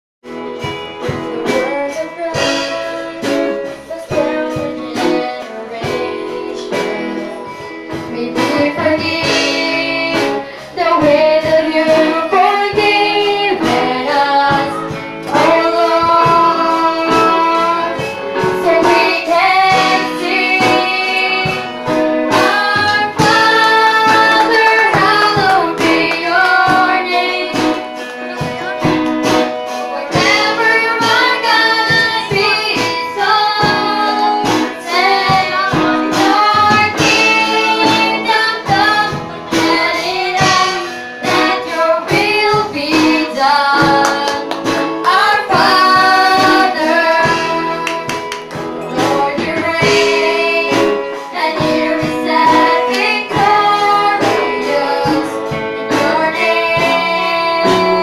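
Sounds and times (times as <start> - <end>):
drums: 0.2 - 58.0
electric guitar: 0.2 - 58.0
keyboard: 0.2 - 58.0
girls singing into microphones: 1.1 - 29.1, 29.7 - 58.0.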